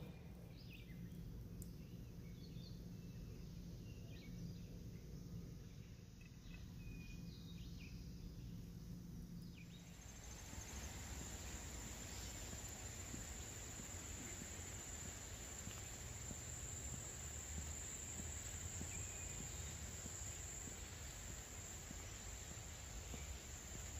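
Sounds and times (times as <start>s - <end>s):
insects chirring: 0.1s - 23.9s.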